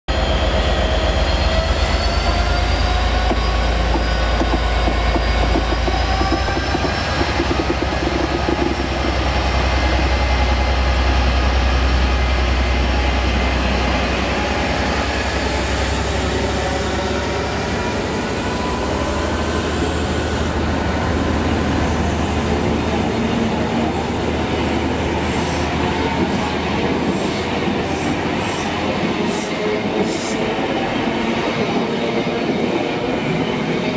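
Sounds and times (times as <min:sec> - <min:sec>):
diesel locomotive engine: 0:00.1 - 0:33.9.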